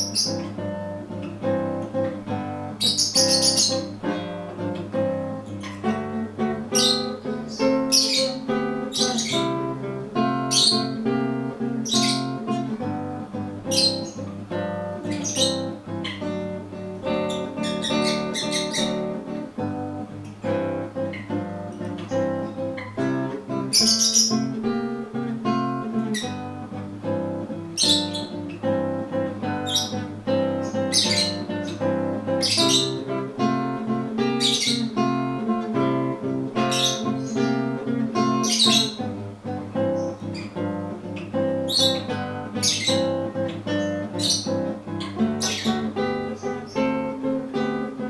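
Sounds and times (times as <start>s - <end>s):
high bird chirps: 0.0s - 39.2s, 39.8s - 48.0s
acoustic guitar music: 0.0s - 48.0s.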